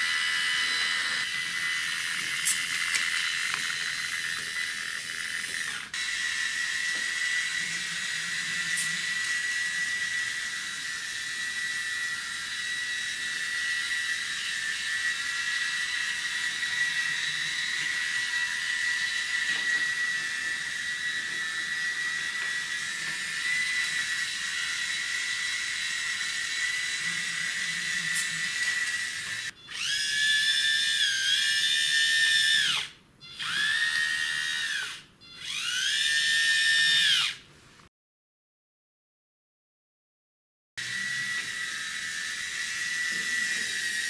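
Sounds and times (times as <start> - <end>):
toy train motor whining: 0.0 - 37.5, 40.8 - 44.0.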